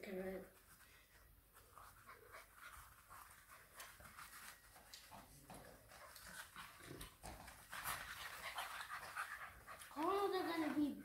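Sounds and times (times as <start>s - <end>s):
puppies scuffling and clicking: 0.0s - 11.0s.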